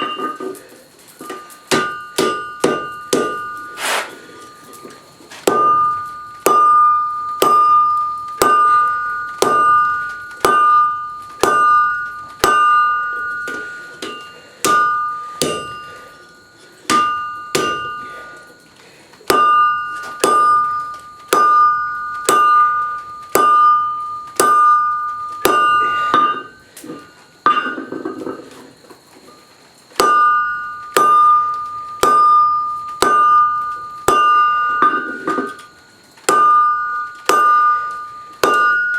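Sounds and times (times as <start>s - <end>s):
hammer striking steel on anvil: 1.2s - 18.5s, 19.2s - 28.3s, 30.0s - 38.9s.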